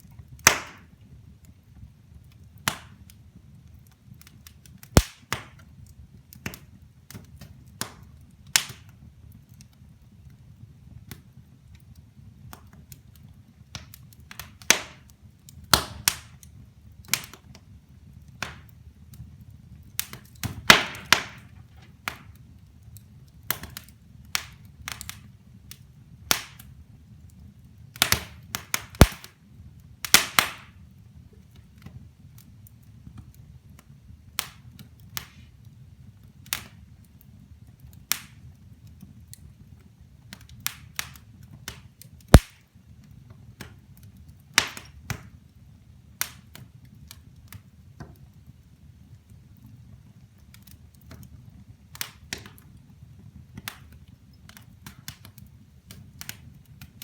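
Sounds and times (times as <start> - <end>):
logs crackling and popping: 0.0 - 30.8, 31.4 - 39.6, 40.2 - 57.0
low fire rumble: 0.0 - 57.0.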